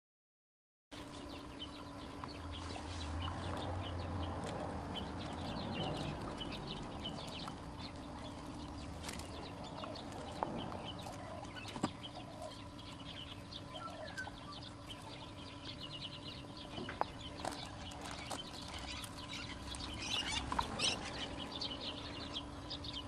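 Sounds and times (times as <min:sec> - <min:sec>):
birds chirping: 0:00.9 - 0:23.0.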